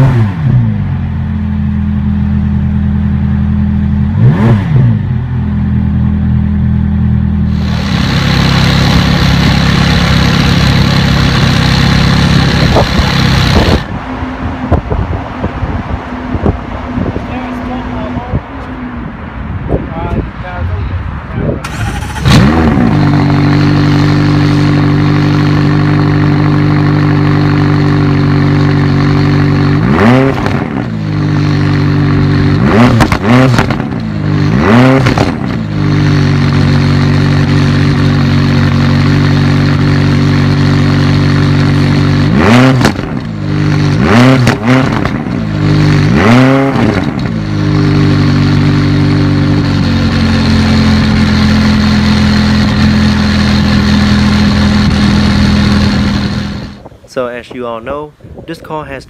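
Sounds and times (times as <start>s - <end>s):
engine revving throttle blips: 0.0s - 1.3s, 3.1s - 57.6s
car engine idling: 0.0s - 21.0s, 21.6s - 29.8s, 30.4s - 57.1s.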